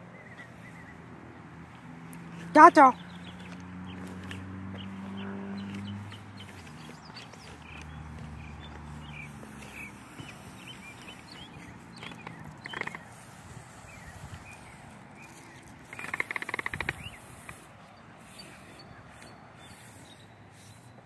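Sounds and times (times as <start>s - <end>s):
birds chirping: 0.0s - 21.0s
rapid run of ticks: 3.1s - 21.0s.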